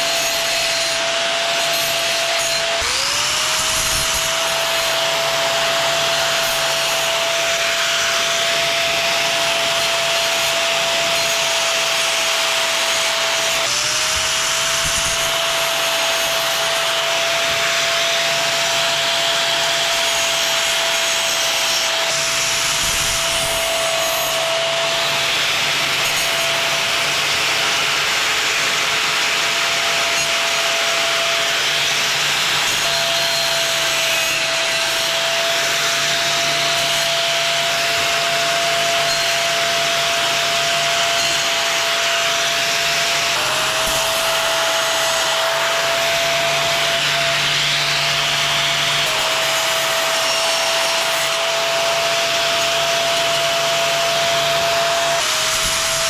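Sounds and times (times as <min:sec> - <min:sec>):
angle grinder grinding steel: 0:00.0 - 0:56.0.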